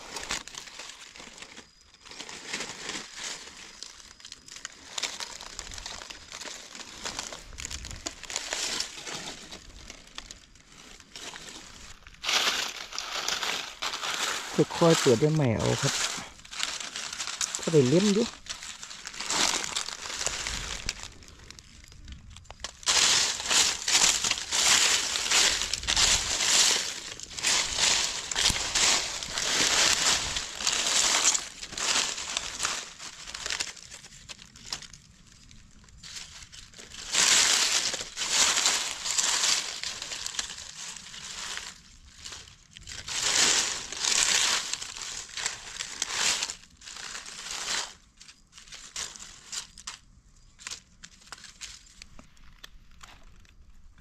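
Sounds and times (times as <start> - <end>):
dry leaves crackling and rustling: 0.0 - 53.6.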